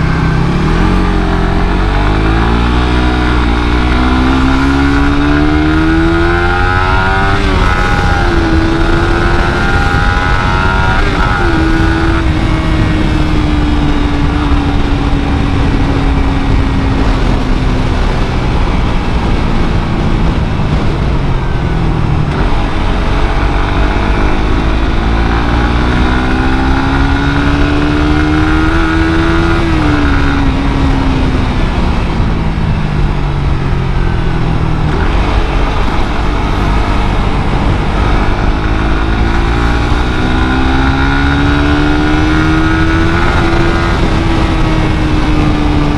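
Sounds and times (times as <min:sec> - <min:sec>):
motorcycle engine revving: 0:00.0 - 0:45.9
steady rushing noise: 0:00.0 - 0:45.9.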